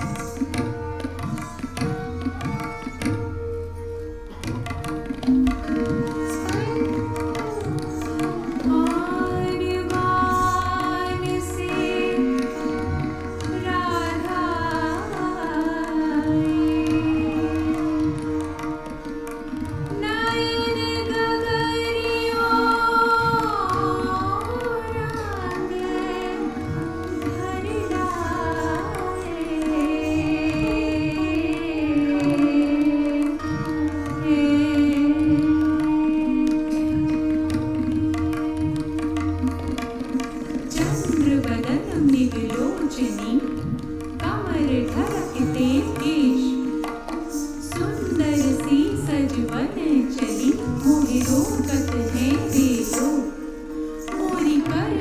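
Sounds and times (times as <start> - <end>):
tabla strokes: 0.0 - 55.0.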